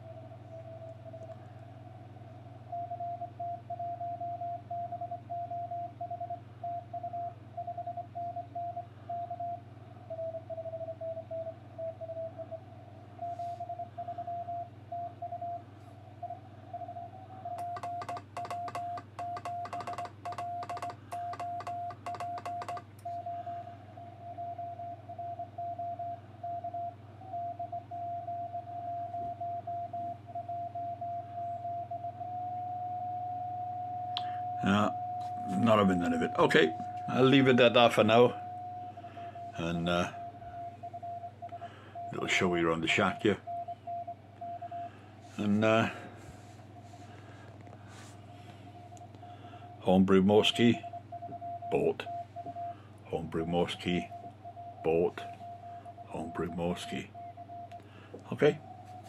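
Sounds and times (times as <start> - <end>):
low hum: 0.0 - 59.0
morse code tones: 2.7 - 12.6, 13.2 - 15.6, 16.2 - 59.0.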